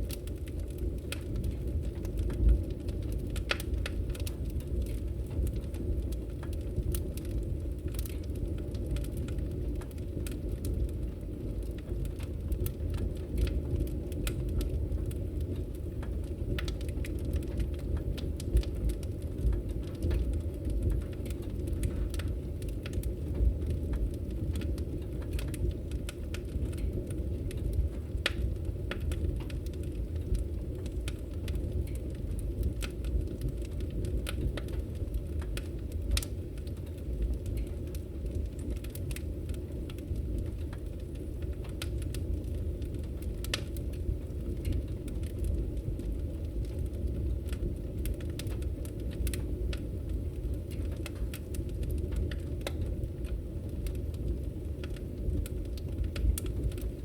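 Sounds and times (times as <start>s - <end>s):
fire flames rumbling: 0.0s - 57.0s
logs crackling and popping: 0.0s - 57.0s.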